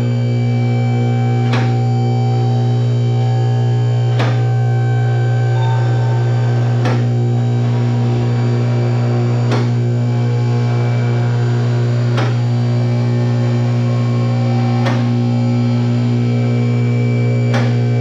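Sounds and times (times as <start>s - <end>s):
sustained music drone: 0.0s - 18.0s.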